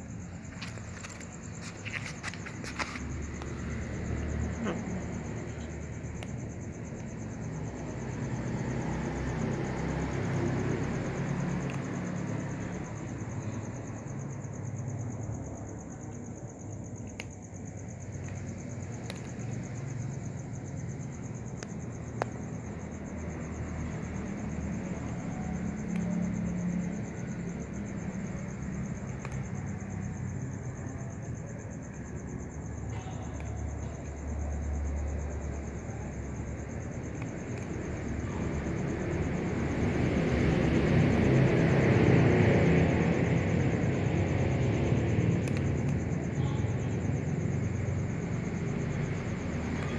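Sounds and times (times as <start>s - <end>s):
crickets chirring: 0.0s - 49.9s.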